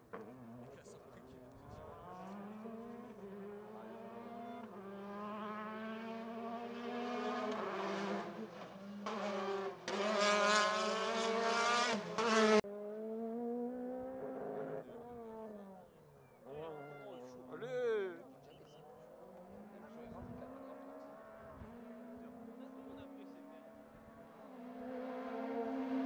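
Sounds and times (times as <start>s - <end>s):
rally car engine at full throttle: 0.0s - 16.5s, 17.2s - 26.0s.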